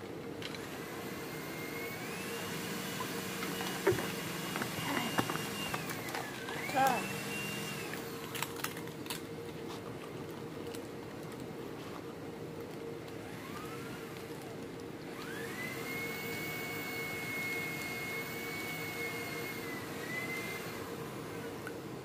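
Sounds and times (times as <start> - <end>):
machine humming: 0.0 - 9.4, 12.3 - 22.0.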